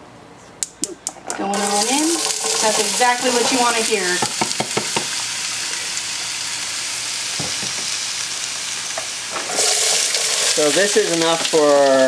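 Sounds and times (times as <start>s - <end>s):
vegetables sizzling in oil: 1.5s - 12.0s.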